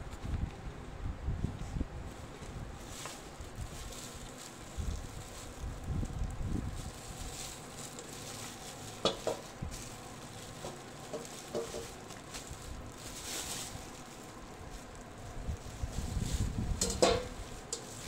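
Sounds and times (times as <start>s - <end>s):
plastic wrap crinkling: 2.8s - 18.0s.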